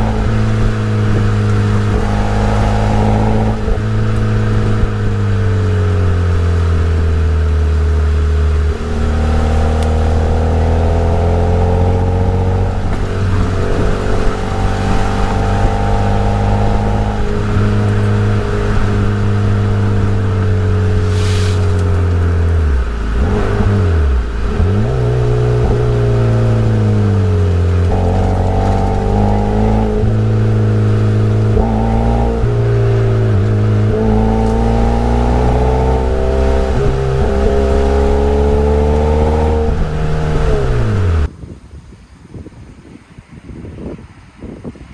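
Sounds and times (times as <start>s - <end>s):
car engine revving through gears: 0.0s - 41.3s.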